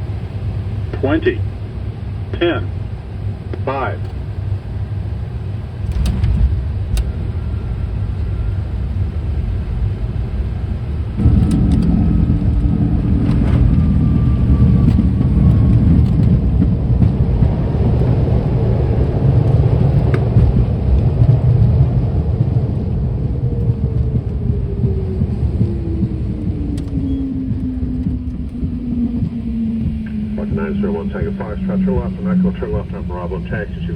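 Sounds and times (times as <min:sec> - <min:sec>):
engines whining down: 0:00.0 - 0:20.9, 0:23.7 - 0:33.9
jet engines roaring: 0:00.0 - 0:33.9
wheels rumbling on runway: 0:00.0 - 0:33.9.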